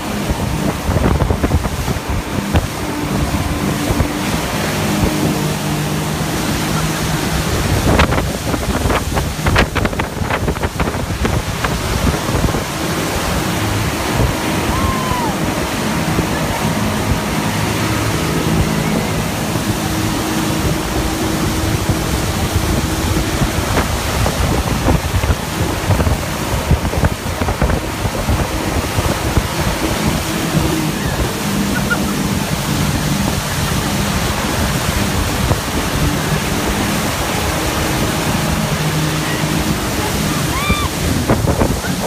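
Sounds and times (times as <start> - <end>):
churning boat wake: 0.0 - 42.0
motorboat engine drone: 0.0 - 42.0
wind rushing on microphone: 0.0 - 42.0.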